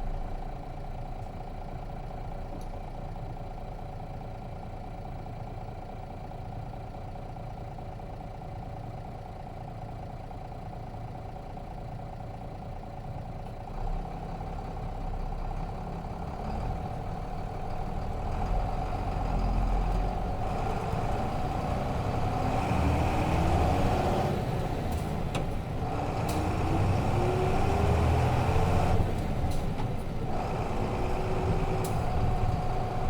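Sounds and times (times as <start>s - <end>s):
bus diesel engine accelerating: 0.0s - 33.0s.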